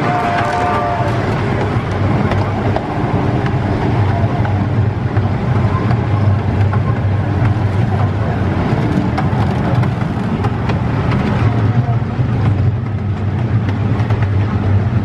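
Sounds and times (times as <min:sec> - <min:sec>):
ride train rumbling on track: 0:00.0 - 0:15.0.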